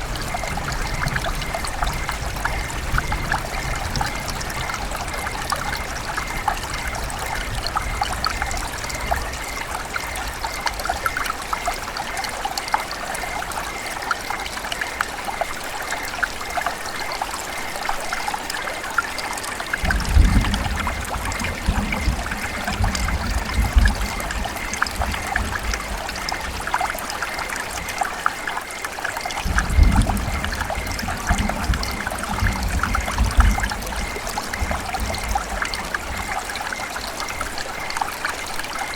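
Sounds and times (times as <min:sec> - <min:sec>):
river water over rocks: 0:00.0 - 0:38.9.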